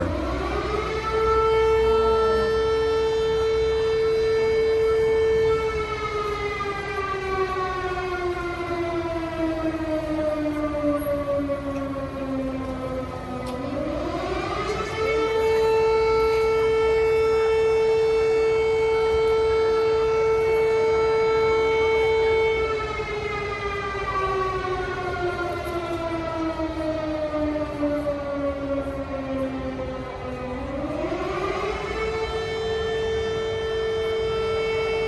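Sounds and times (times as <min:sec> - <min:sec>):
civil defense siren: 0:00.0 - 0:35.0.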